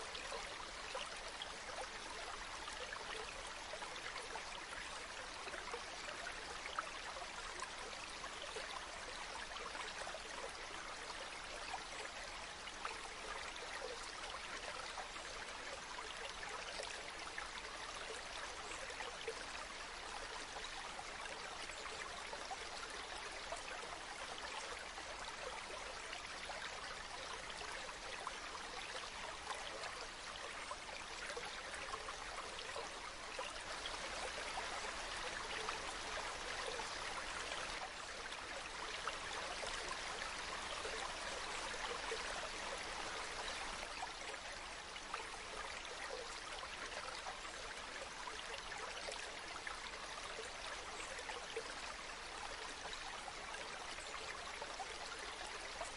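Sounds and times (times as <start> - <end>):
stream flowing over rocks: 0.0 - 55.9.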